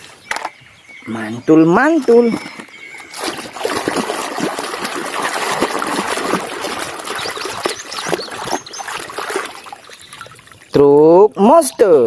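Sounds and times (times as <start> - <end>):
water running and splashing: 2.0 - 11.9.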